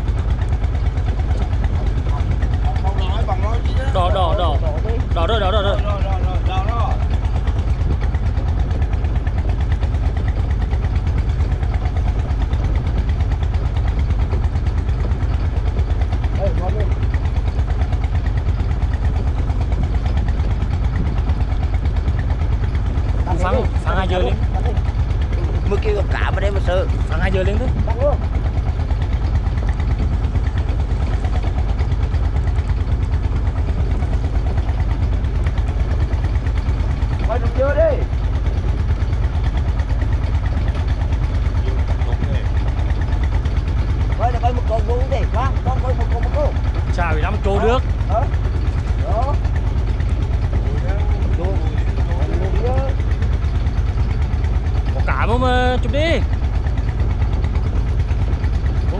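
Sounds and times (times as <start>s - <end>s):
boat engine chugging: 0.0s - 58.9s.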